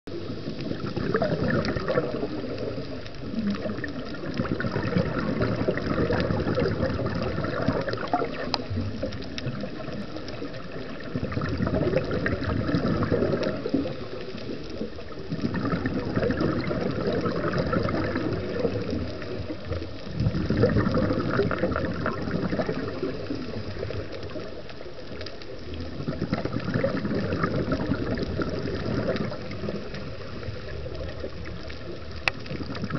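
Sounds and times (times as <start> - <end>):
low rumble of water: 0.0 - 32.9
regulator exhale bubbles underwater: 0.1 - 32.9.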